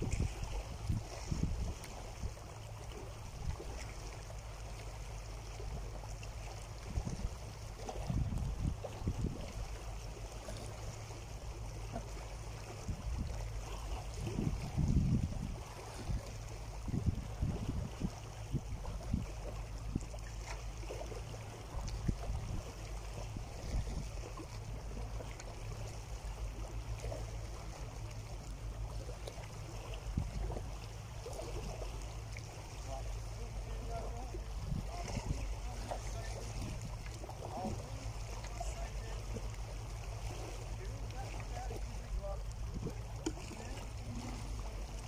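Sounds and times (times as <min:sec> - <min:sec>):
small waves lapping against rocks: 0:00.0 - 0:45.0.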